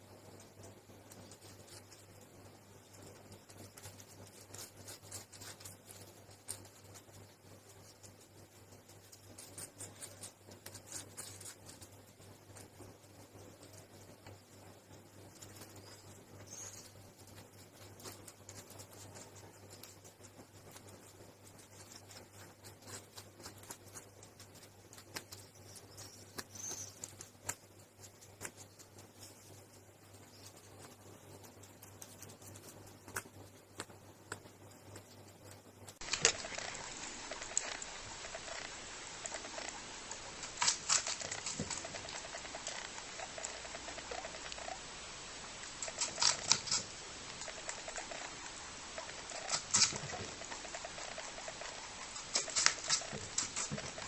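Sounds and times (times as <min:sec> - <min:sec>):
rabbit chewing crunchy clicks: 0:00.0 - 0:54.0.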